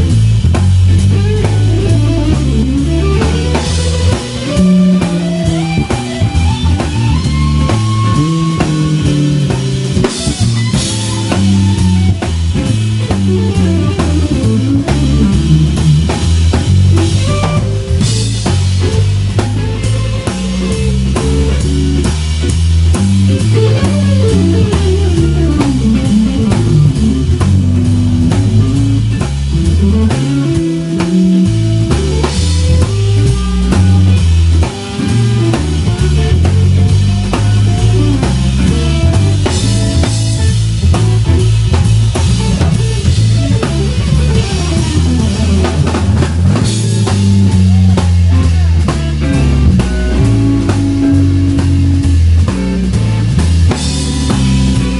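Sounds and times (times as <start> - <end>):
drum kit: 0.0 - 54.9
electric bass: 0.0 - 54.9
electric guitar bending notes: 0.0 - 54.9.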